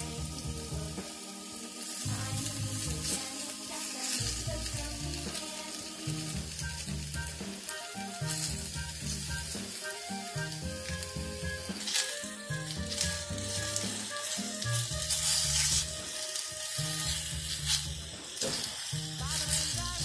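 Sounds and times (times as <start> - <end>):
background music: 0.0 - 20.0
pork slices sizzling: 0.0 - 20.0.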